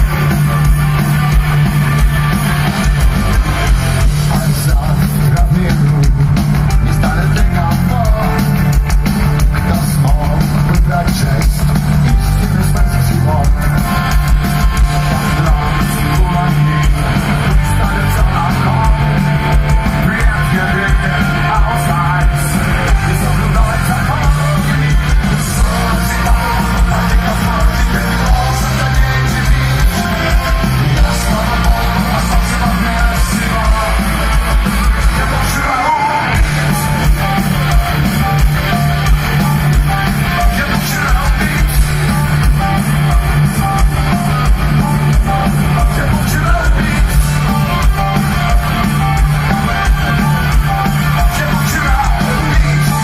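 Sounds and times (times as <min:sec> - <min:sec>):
rock band playing live: 0:00.0 - 0:53.0
person singing: 0:03.6 - 0:53.0.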